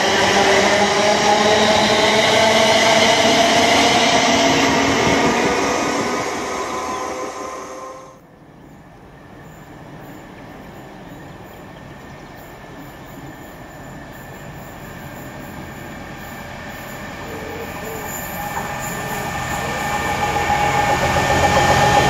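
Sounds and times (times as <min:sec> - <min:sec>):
diesel locomotive engine: 0:00.0 - 0:22.0
passing train: 0:00.0 - 0:22.0
train wheels on rails: 0:00.0 - 0:22.0.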